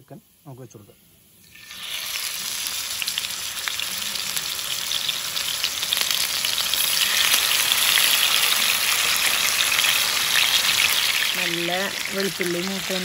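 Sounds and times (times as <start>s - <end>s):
chicken frying in hot oil: 1.4s - 13.0s.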